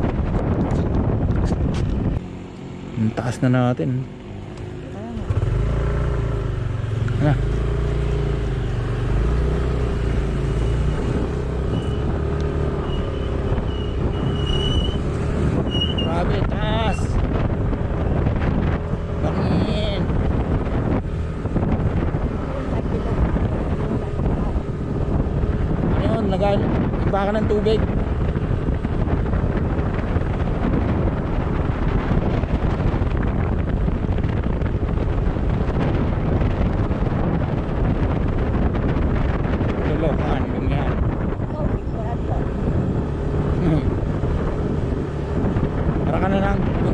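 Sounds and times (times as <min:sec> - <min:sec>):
vehicle engine and road rumble: 0:00.0 - 0:46.9
wind rushing over microphone: 0:00.0 - 0:46.9.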